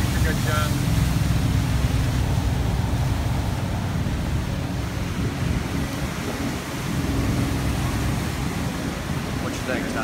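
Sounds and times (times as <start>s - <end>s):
water noise: 0.0s - 10.0s
wind: 0.0s - 10.0s.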